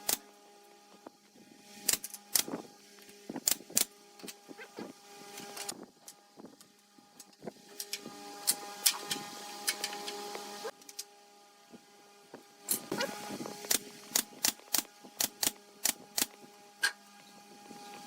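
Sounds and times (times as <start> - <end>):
workshop machine noise: 0.0 - 18.0.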